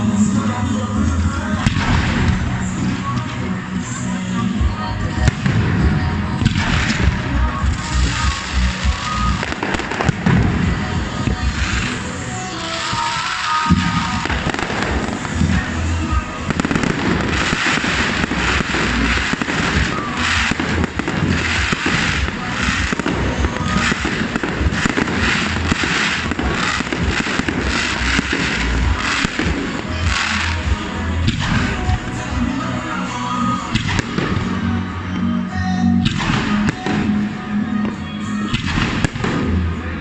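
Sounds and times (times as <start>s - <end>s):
fireworks bursting: 0.0s - 40.0s
music playing: 0.0s - 40.0s.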